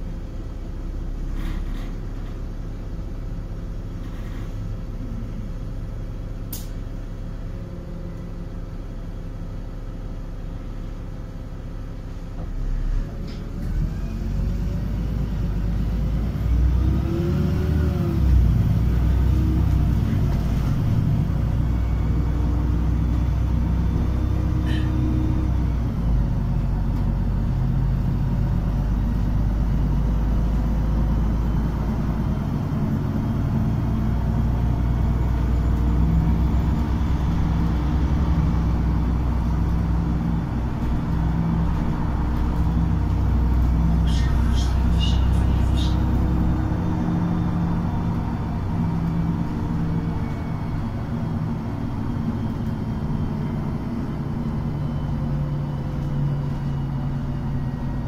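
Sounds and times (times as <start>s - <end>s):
bus engine and tyres rumbling: 0.0s - 58.0s.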